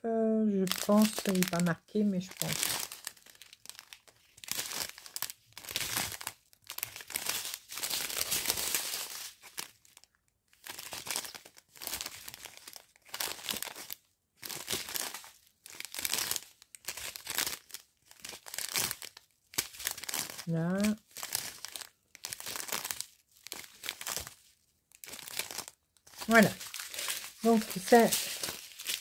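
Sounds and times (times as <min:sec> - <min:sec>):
plastic sachets crinkling: 0:00.5 - 0:29.0.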